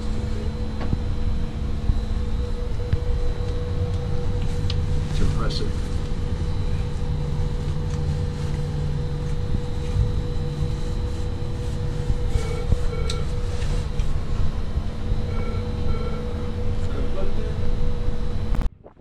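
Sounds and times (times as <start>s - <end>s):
ship engines rumbling: 0.0s - 19.0s.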